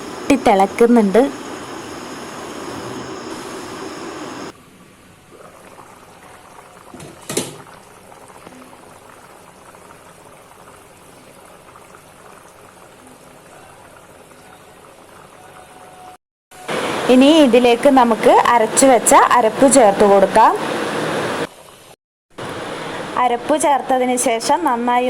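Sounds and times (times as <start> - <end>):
pot bubbling at a boil: 0.0 - 25.0.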